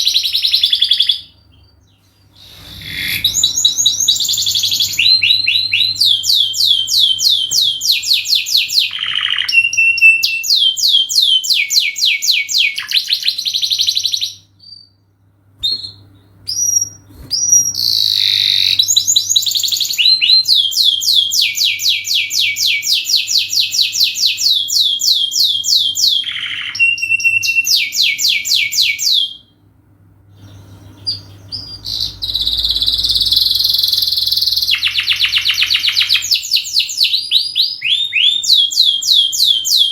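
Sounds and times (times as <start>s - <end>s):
canary singing trills: 0.0s - 15.0s, 15.6s - 29.5s, 30.4s - 39.9s.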